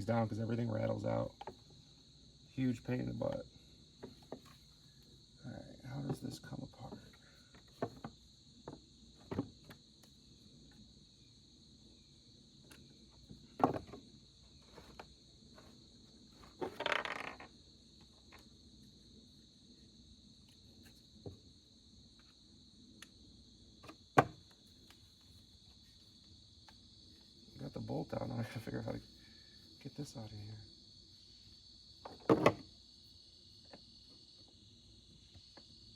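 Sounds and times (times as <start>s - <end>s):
crickets chirring: 0.0s - 35.9s.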